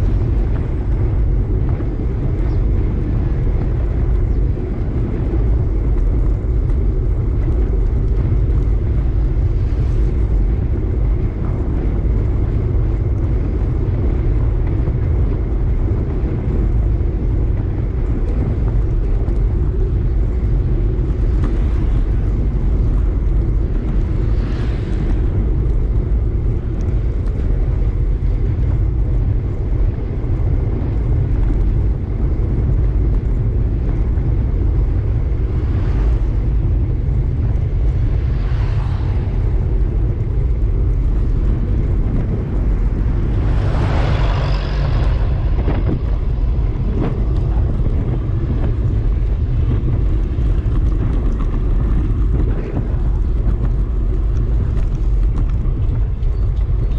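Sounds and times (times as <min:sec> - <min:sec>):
road noise while cycling: 0:00.0 - 0:56.9
vehicles passing: 0:00.0 - 0:56.9
wind on microphone: 0:00.0 - 0:56.9.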